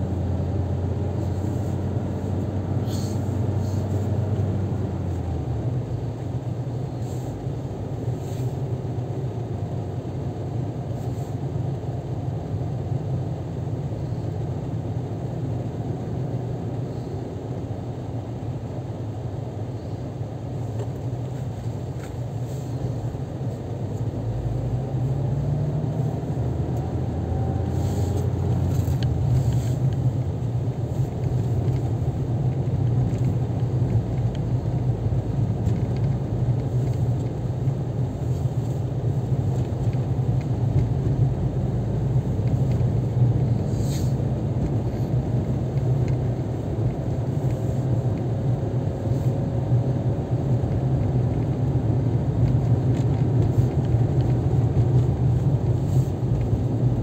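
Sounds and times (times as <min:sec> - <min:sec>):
car engine and tyre drone: 0:00.0 - 0:57.0
engine whine: 0:00.0 - 0:57.0.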